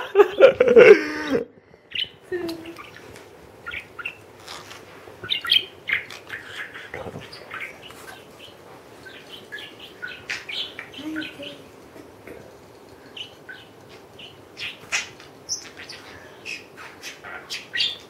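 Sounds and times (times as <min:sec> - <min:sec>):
parrot chirping and clicking: 0:01.9 - 0:18.0.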